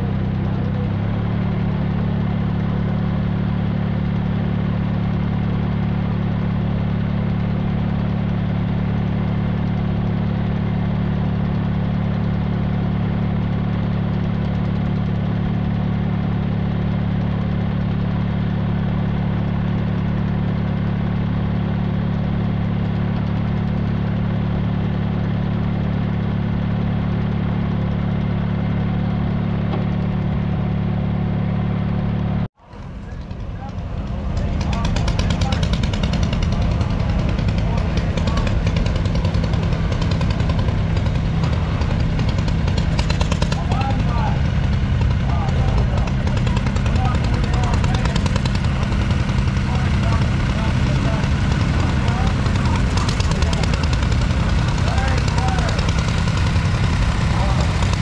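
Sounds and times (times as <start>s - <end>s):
tractor engine droning: 0.0s - 58.0s.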